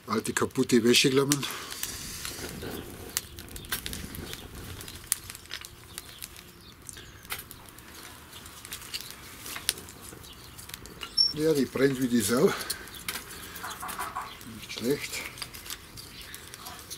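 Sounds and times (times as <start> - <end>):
wood fire crackling: 0.0 - 16.9
flame fluttering: 1.0 - 16.9.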